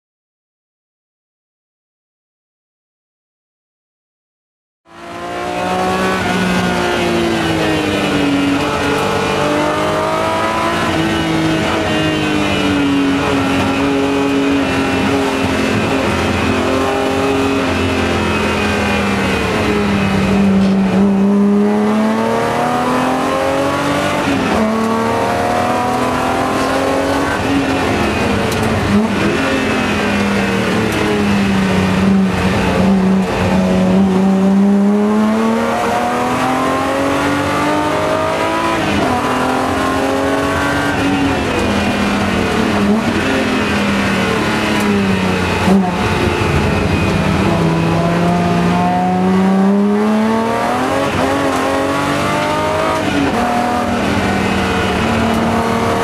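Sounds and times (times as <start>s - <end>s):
car engine revving: 4.9s - 56.0s.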